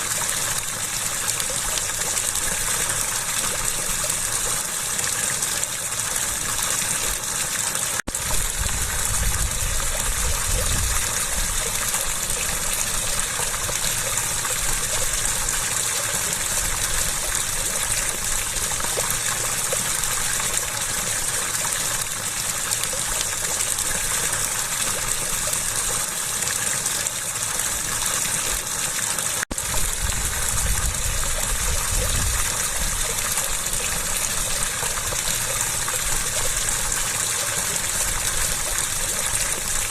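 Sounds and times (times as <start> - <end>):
water gushing: 0.0 - 39.9.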